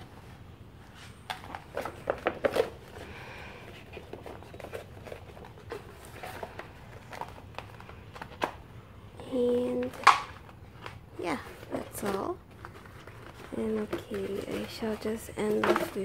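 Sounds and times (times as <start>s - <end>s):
paper poster rustling and crinkling: 0.0s - 16.0s.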